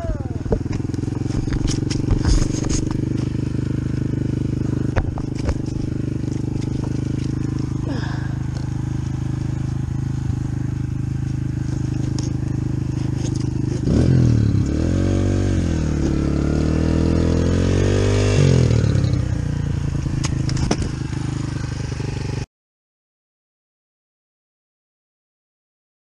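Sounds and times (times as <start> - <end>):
dirt bike engine idling and revving: 0.0 - 22.5.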